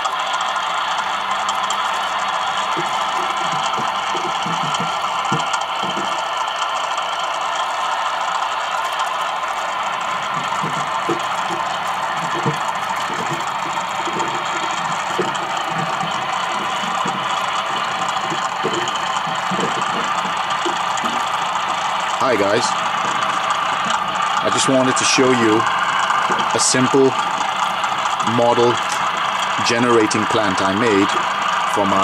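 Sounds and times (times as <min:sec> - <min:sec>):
simulated diesel engine hum: 0:00.0 - 0:32.0
light clattering knocks: 0:01.1 - 0:06.6, 0:09.7 - 0:31.5.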